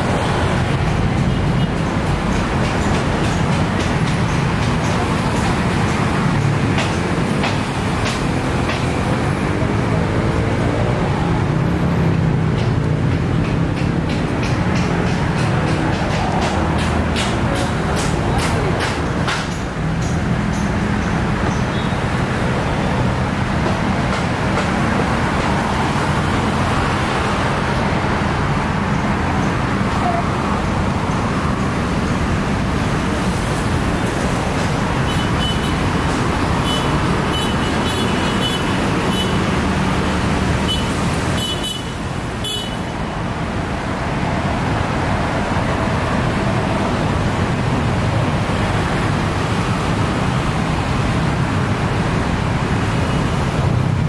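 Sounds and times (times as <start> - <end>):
road traffic rushing: 0.0 - 54.0.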